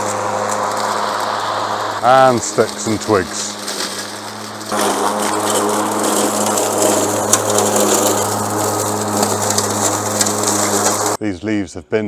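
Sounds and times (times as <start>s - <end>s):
lawn mower motor hum: 0.0s - 11.2s
leaves and twigs crunching: 0.0s - 11.2s.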